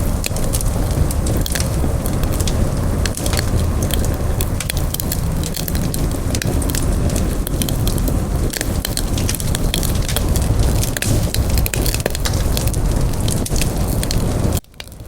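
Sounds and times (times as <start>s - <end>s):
campfire crackles and pops: 0.0s - 15.0s
low rumble of flame: 0.0s - 15.0s.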